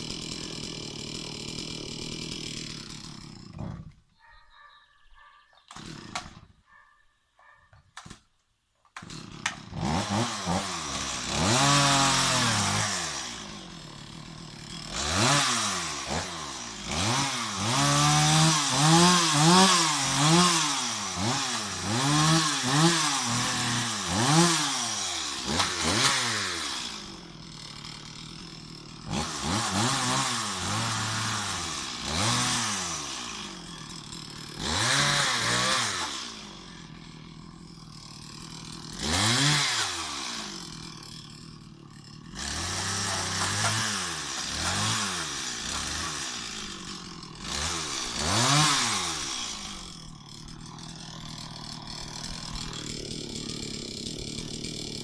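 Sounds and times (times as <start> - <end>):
chainsaw idling and revving: 0.0 - 4.1, 5.6 - 6.6, 8.9 - 55.0.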